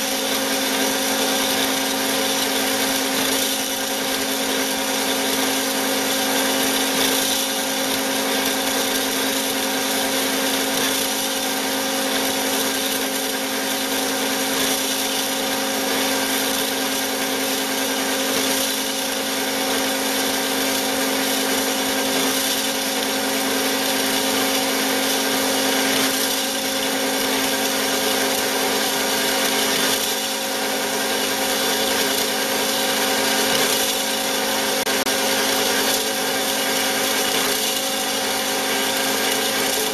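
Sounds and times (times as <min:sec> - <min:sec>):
bandsaw running: 0:00.0 - 0:39.9.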